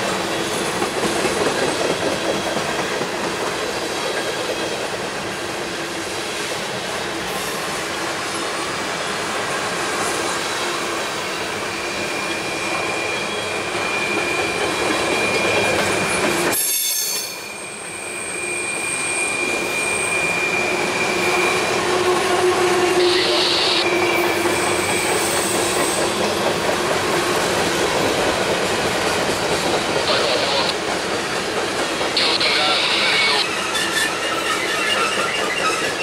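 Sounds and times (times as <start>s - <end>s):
freight train cars rolling past: 0.0s - 36.0s
wheels squealing on rails: 6.3s - 36.0s.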